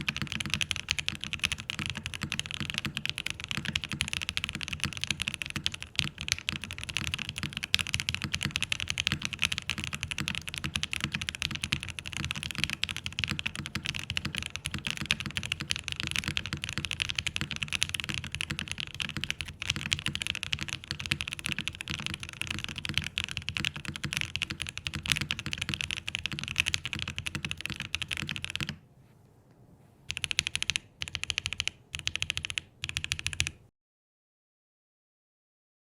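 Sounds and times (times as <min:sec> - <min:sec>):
typing on mechanical keyboard: 0:00.0 - 0:28.8, 0:30.1 - 0:33.6.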